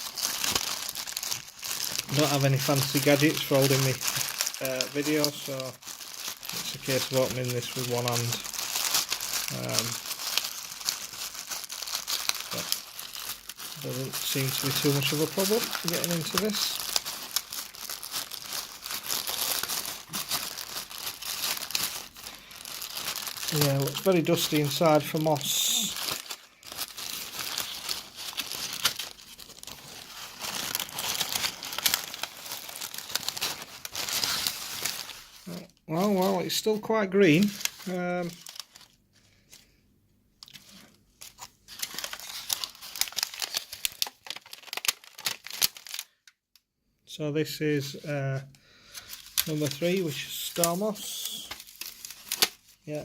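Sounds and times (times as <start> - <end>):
packaging tearing: 0.0 - 36.6, 37.2 - 39.0, 40.4 - 46.3, 48.9 - 53.0
plastic packet crinkling: 0.0 - 39.7, 40.4 - 46.4, 48.8 - 53.0.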